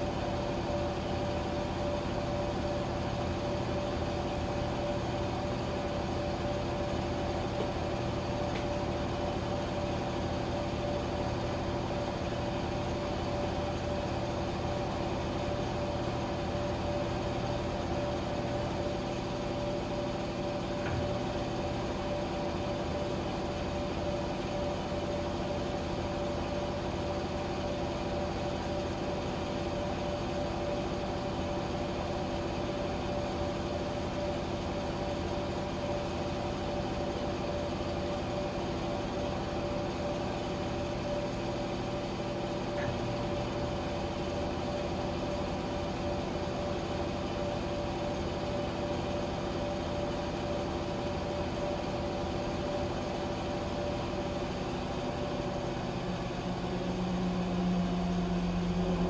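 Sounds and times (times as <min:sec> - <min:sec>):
constant whine: 0:00.0 - 0:59.0
washing machine motor hum: 0:00.0 - 0:59.0.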